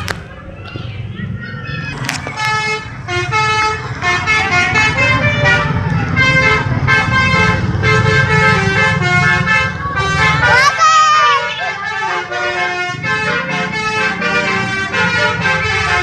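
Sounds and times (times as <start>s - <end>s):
bus engine rumble: 0.0s - 16.0s
musical bus horn melody: 2.0s - 16.0s.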